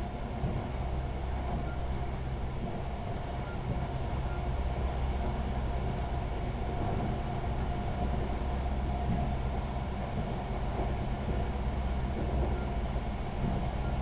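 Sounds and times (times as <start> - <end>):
faint steady whine: 0.0 - 14.0
train engine and wheels rumbling: 0.0 - 14.0.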